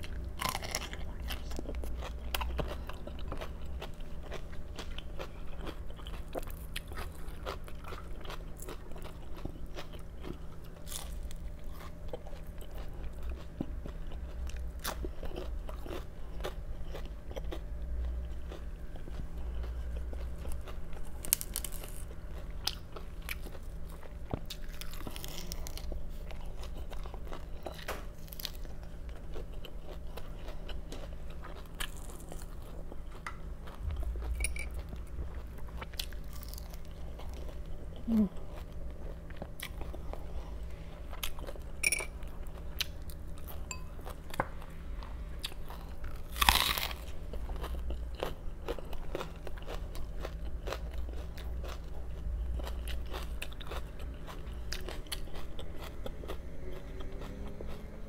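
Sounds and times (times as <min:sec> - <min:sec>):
crunchy vegetables being chewed: 0:00.0 - 0:58.0.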